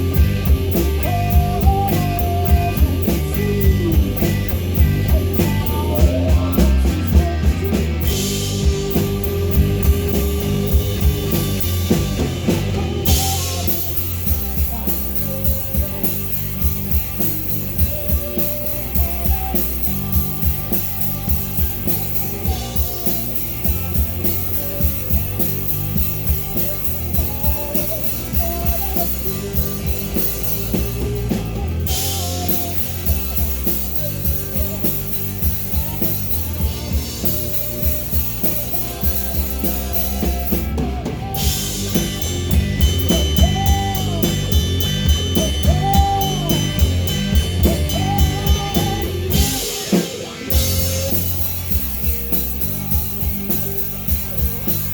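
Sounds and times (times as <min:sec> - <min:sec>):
drum kit beat: 0:00.0 - 0:54.9
rock band playing live: 0:00.0 - 0:54.9.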